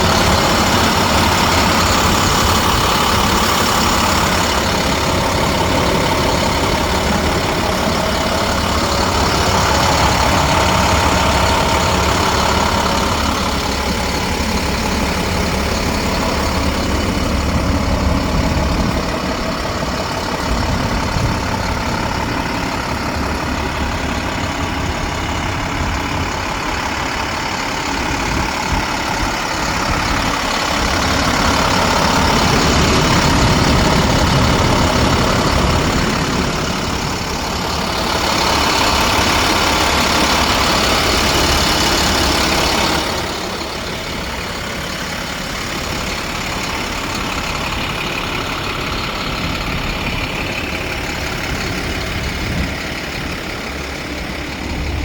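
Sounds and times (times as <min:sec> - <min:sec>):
broad rushing noise: 0:00.0 - 0:55.0
diesel truck engine running: 0:00.0 - 0:55.0.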